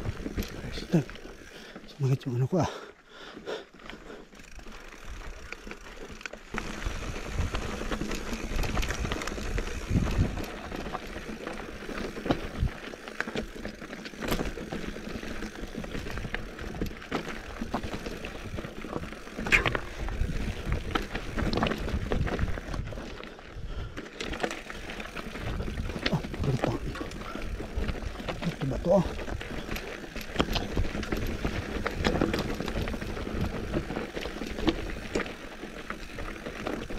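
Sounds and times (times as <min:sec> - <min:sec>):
bike rattling over rocks: 0:00.0 - 0:02.5, 0:03.7 - 0:36.9
bike tyres crunching over stones: 0:00.0 - 0:36.9.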